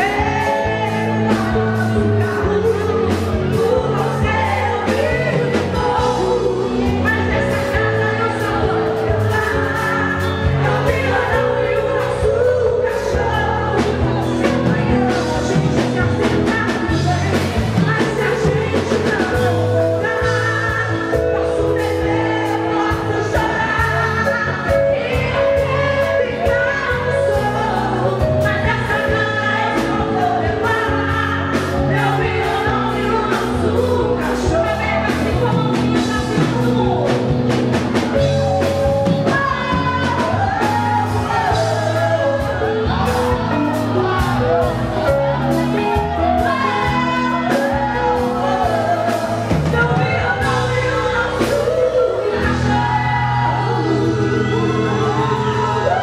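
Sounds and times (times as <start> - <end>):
live band music: 0.0 - 56.0
woman singing: 0.0 - 56.0.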